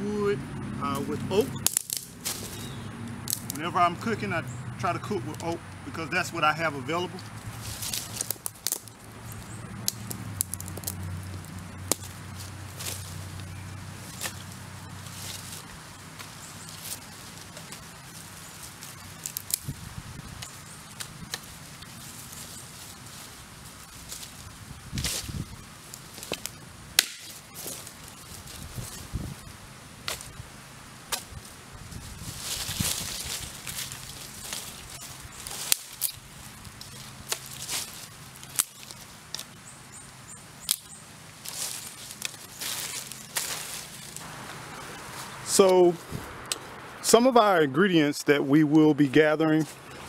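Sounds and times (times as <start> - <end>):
dry sticks crackling and snapping: 1.0 - 4.2, 4.9 - 47.2.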